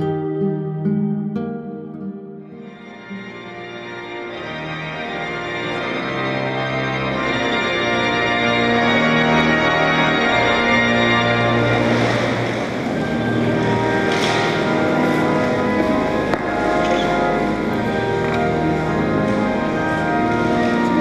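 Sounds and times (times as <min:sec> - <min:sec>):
organ chords: 0:00.0 - 0:21.0.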